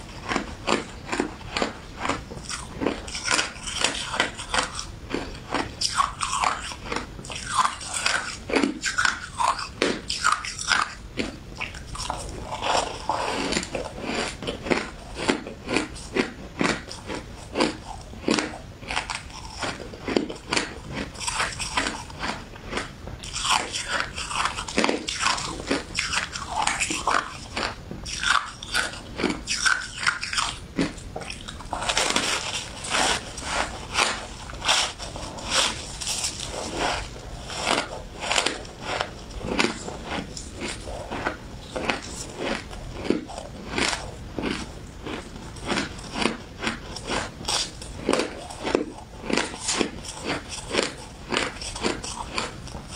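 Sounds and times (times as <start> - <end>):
person chewing ice: 0.0 - 52.9.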